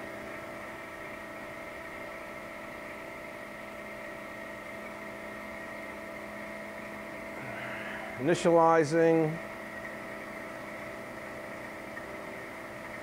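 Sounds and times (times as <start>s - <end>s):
grinder humming and whining: 0.0s - 13.0s.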